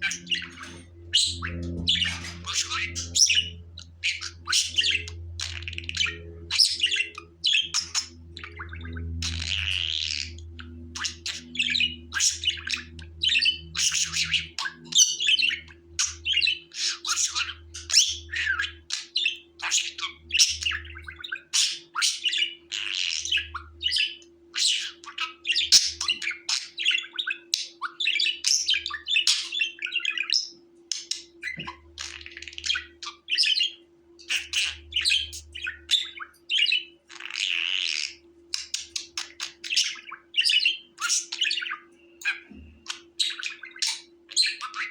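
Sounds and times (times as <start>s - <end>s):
budgerigars chattering: 0.0s - 44.9s.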